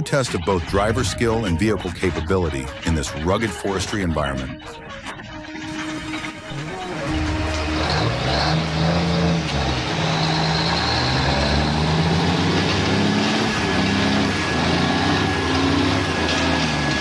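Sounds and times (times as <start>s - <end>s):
diesel truck engine straining: 0.0s - 17.0s.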